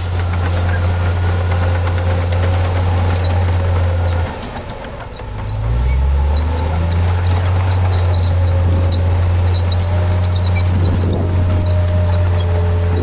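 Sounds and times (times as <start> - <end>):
heavy diesel engine droning: 0.0 - 13.0.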